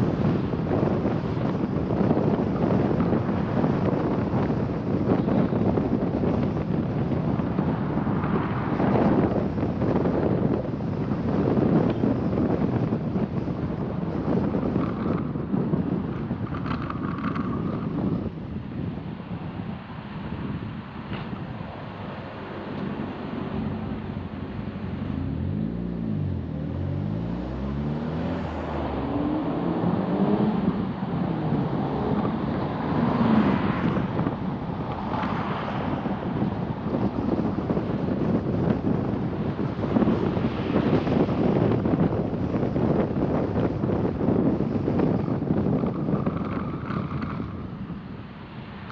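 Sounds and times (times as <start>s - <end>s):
road and engine noise: 0.0s - 48.9s
wind buffeting microphone: 0.0s - 48.9s.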